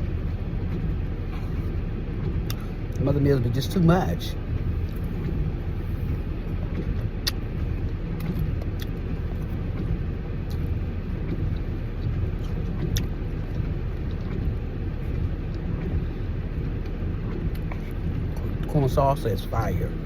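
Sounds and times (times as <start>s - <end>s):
car idling rumble: 0.0s - 20.0s.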